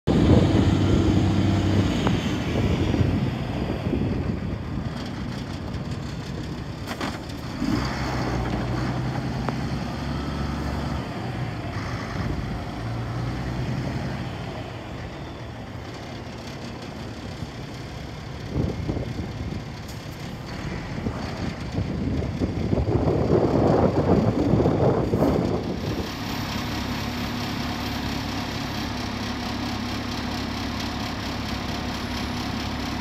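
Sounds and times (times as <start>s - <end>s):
truck diesel engine running: 0.1s - 33.0s.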